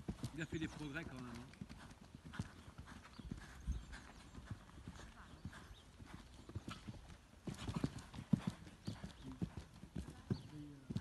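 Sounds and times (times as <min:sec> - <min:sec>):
hoofbeats cantering on sand: 0:00.0 - 0:11.0.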